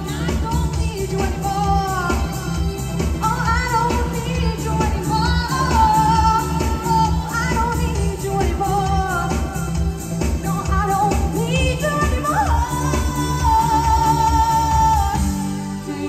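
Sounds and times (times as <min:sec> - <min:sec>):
band with heavy beat: 0:00.0 - 0:16.0
woman singing: 0:00.0 - 0:16.0.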